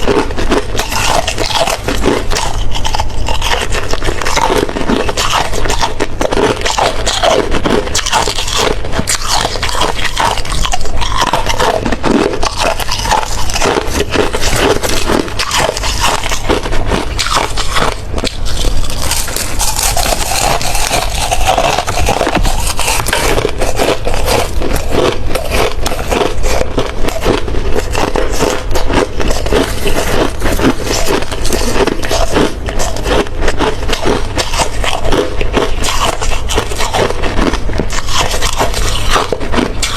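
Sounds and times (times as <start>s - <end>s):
person chewing hard ice: 0.0s - 39.9s.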